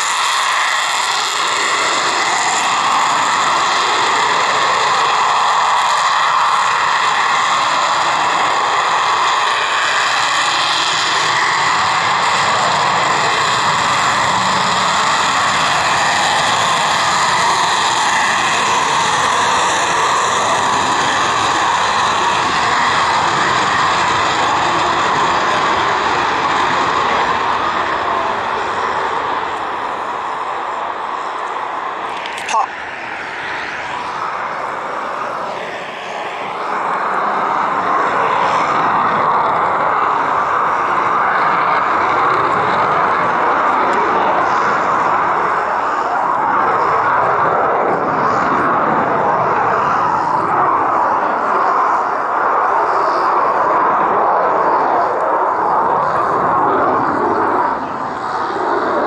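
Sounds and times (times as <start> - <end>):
loud jet engine noise: 0.0 - 59.0.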